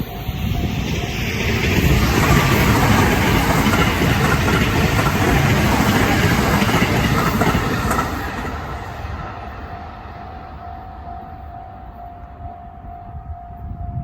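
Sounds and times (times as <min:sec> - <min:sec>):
train wheels rumbling on rails: 0:00.0 - 0:12.5.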